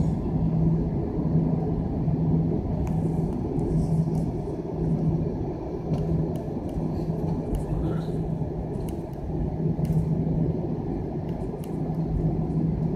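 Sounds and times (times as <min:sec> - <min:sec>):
airliner cabin drone: 0:00.0 - 0:12.9.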